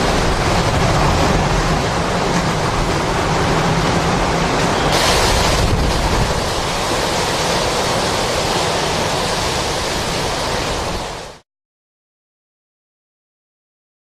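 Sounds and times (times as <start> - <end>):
loud hurricane winds rushing: 0.0 - 11.4.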